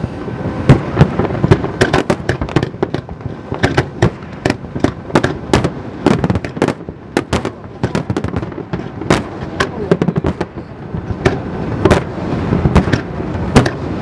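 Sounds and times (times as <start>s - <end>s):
fireworks bangs: 0.4s - 14.0s.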